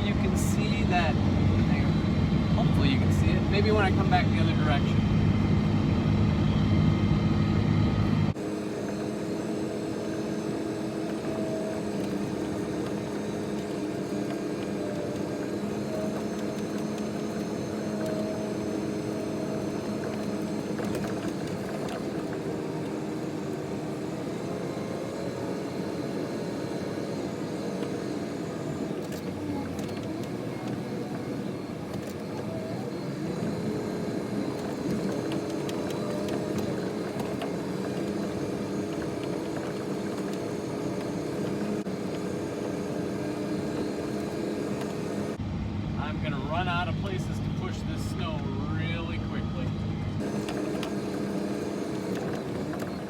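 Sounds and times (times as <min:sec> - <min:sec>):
snow plow engine running: 0:00.0 - 0:53.0.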